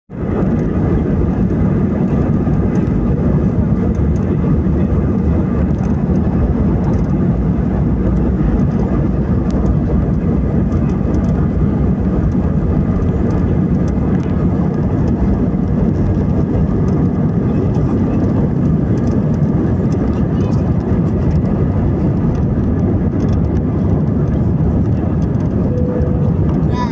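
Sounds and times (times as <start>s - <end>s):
jet engines rumbling: 0.1s - 26.9s.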